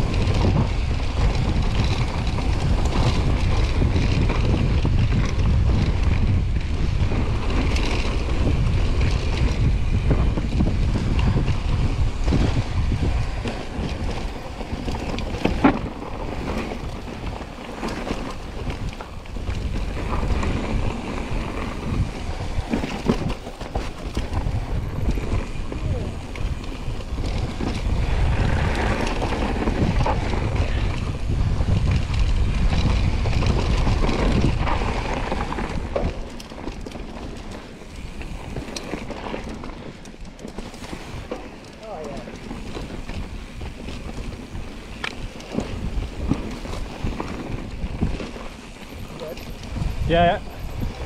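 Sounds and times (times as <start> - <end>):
bike clattering over rough ground: 0.0 - 51.0
bike tyres rumbling: 0.0 - 51.0
wind buffeting microphone: 0.0 - 51.0.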